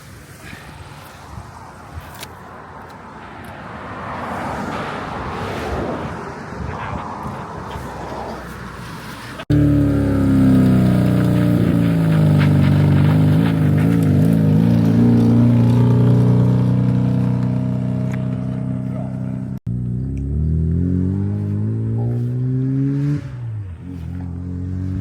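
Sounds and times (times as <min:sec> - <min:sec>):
car engine droning: 0:03.4 - 0:25.0.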